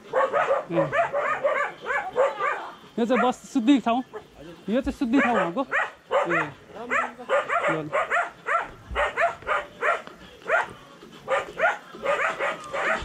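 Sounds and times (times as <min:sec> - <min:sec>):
dog barking: 0:00.1 - 0:03.5, 0:05.1 - 0:13.0.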